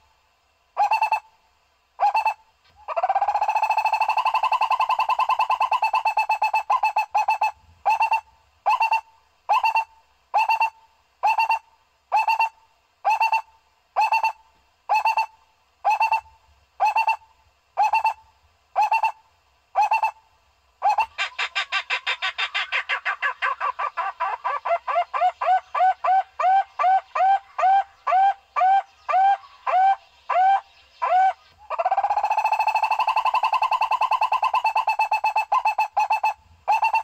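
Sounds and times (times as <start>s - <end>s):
barbet calls: 0.8s - 1.3s, 2.0s - 20.2s, 20.8s - 37.0s.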